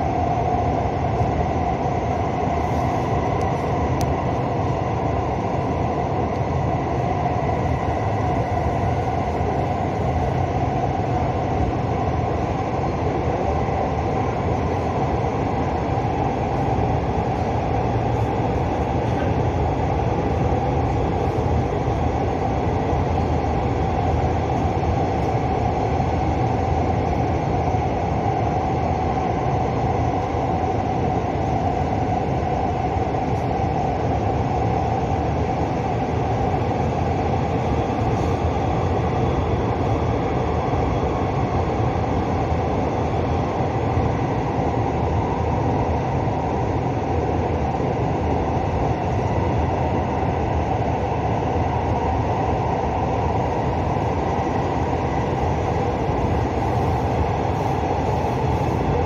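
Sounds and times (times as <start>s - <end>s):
steady hum: 0.0s - 59.0s
subway train rumbling in tunnel: 0.0s - 59.0s.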